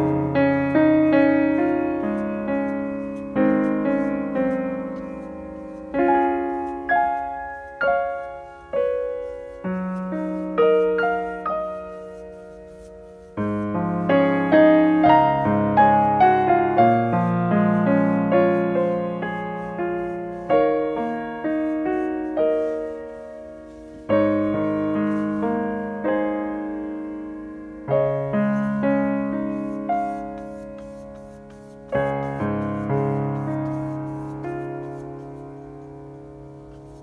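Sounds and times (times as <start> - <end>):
slow gentle solo piano: 0.0 - 37.0.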